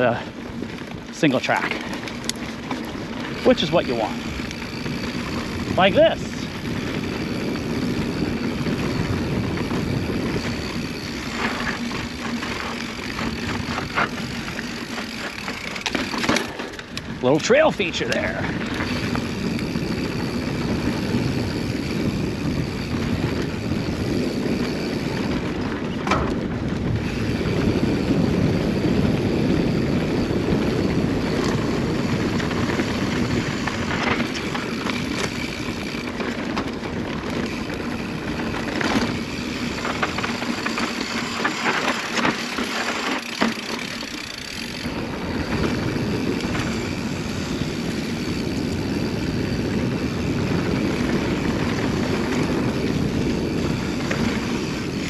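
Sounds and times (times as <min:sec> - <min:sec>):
bike knocks and rattles: 0:00.0 - 0:55.0
tyres rumbling over dirt: 0:00.0 - 0:55.0
wind buffeting microphone: 0:00.0 - 0:55.0.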